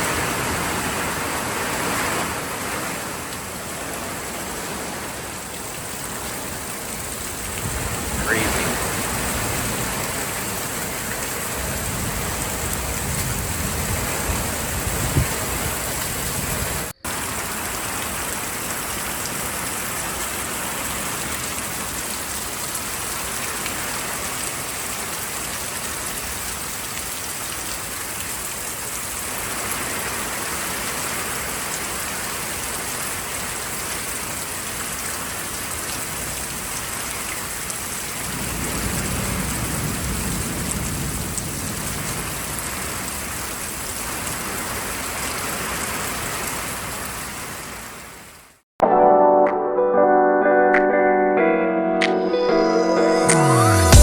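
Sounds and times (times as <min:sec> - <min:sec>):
heavy rain falling: 0:00.0 - 0:48.6.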